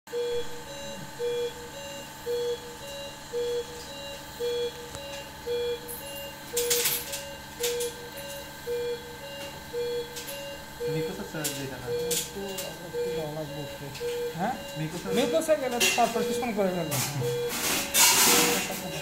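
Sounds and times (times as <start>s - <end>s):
patient monitor beeping: 0.1s - 19.0s.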